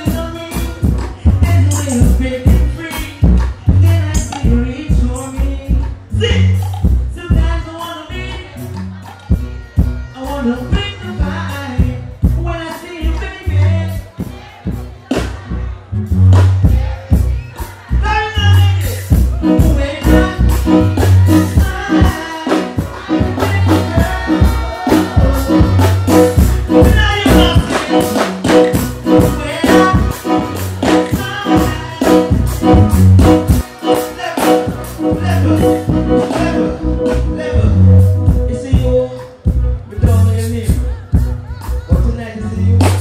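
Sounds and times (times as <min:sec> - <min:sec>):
backing track with heavy bass beat: 0:00.0 - 0:43.0
person singing into microphone: 0:00.0 - 0:43.0.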